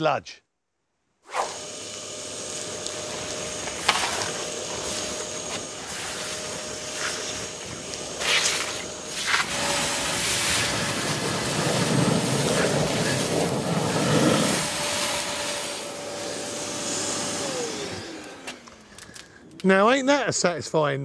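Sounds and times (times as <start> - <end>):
wet and dry vacuum whine: 1.3 - 20.0.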